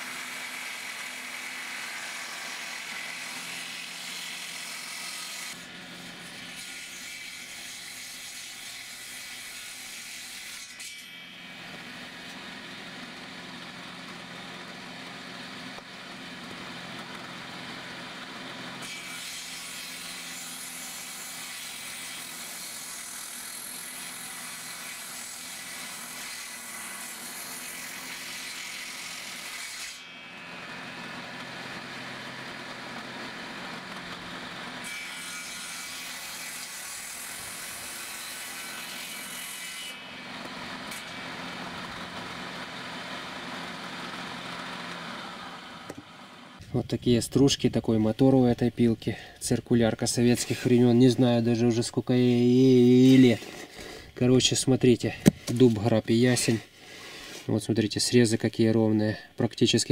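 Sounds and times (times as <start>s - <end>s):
circular saw cutting wood: 0.0s - 59.1s.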